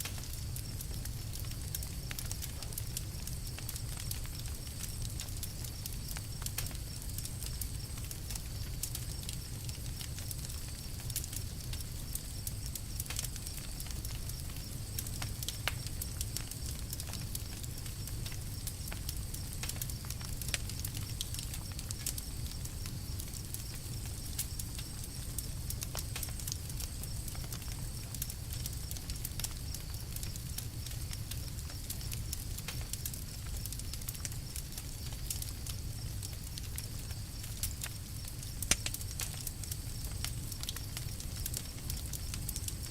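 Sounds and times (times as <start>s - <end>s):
campfire crackling and popping: 0.0s - 42.9s
low rumble of burning fire: 0.0s - 42.9s.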